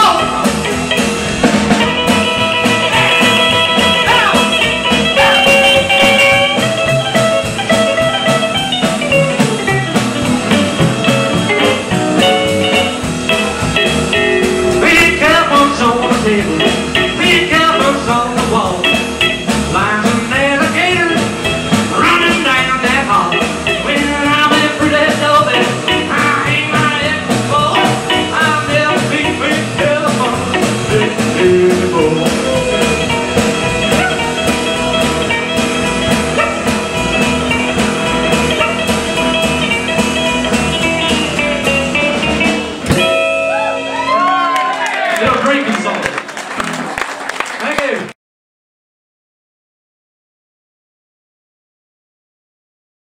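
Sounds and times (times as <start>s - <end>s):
live country rock band: 0.0s - 47.9s.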